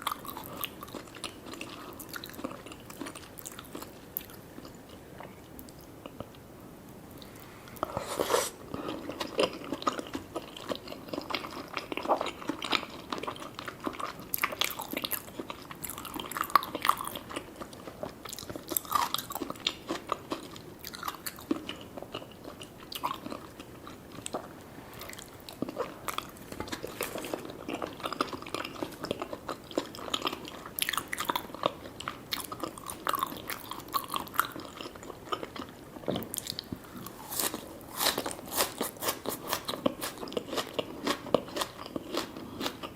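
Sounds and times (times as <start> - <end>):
chewing and biting food: 0.0 - 6.3, 8.7 - 42.9.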